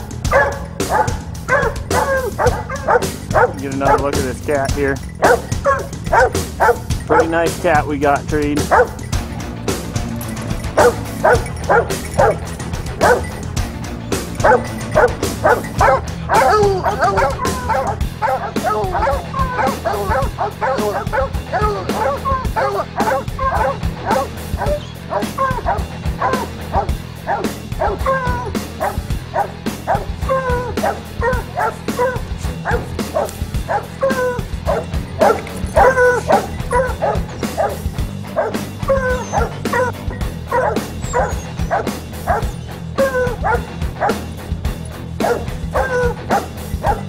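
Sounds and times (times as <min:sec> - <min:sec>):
hounds barking and baying: 0:00.0 - 0:47.0.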